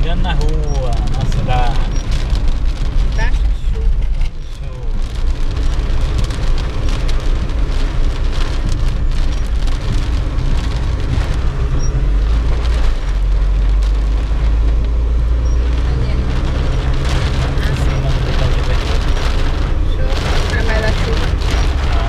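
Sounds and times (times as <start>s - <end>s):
car driving on wet road: 0.0s - 22.0s
rain pattering on car roof: 0.0s - 22.0s.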